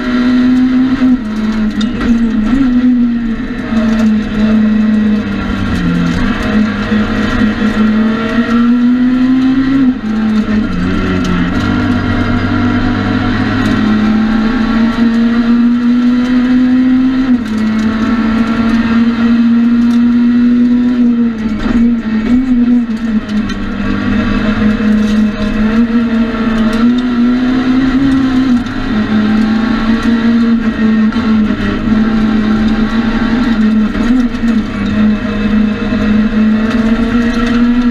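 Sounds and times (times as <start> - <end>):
rally car engine running hard: 0.0 - 37.9.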